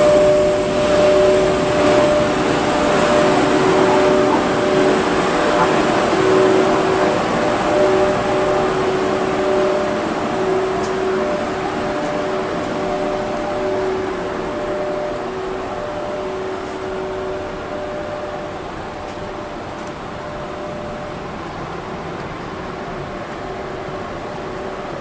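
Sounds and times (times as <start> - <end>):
train equipment hum and hiss: 0.0 - 25.0.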